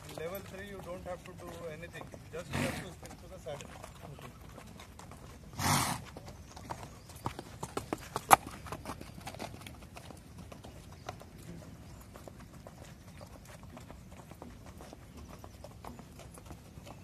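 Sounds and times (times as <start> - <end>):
hoofbeats on dirt: 0.0 - 17.0.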